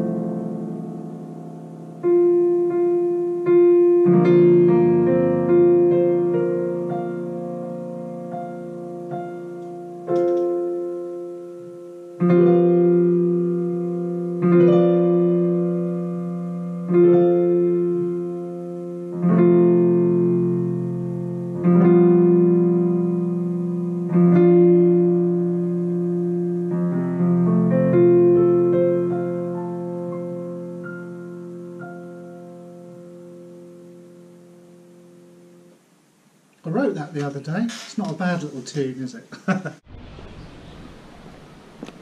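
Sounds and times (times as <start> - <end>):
piano chords ringing: 0.0 - 37.7, 39.8 - 42.0.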